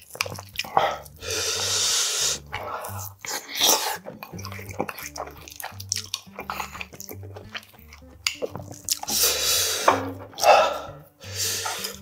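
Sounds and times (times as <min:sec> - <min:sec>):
background music with bass line: 0:00.0 - 0:12.0
chewing and wet mouth noises: 0:00.0 - 0:12.0.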